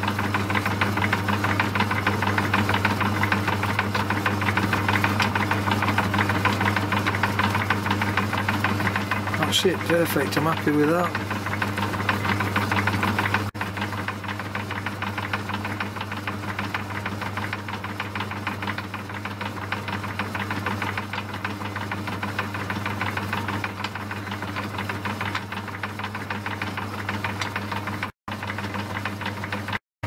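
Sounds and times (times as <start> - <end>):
lathe motor humming and rattling: 0.0 - 29.8.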